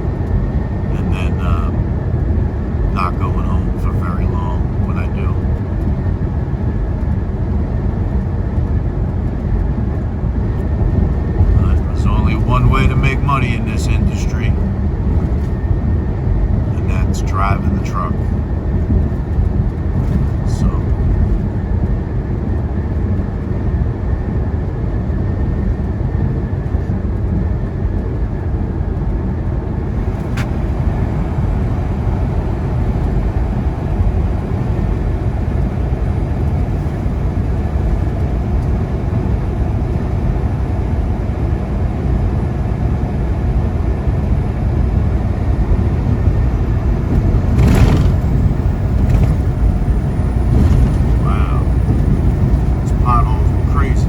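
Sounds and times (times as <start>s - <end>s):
truck engine drone in cab: 0.0s - 54.0s.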